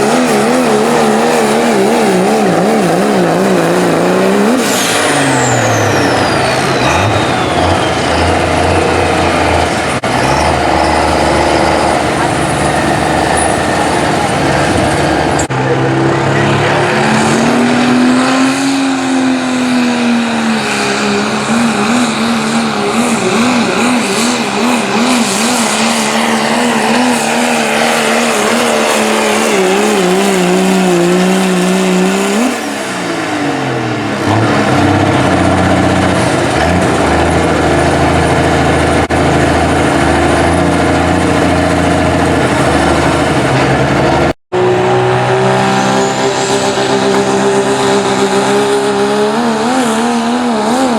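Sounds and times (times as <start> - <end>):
diesel truck engine under load: 0.0 - 50.9.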